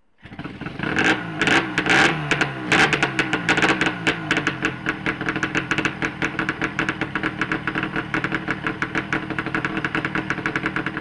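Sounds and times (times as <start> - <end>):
two-stroke engine idling: 0.2 - 11.0.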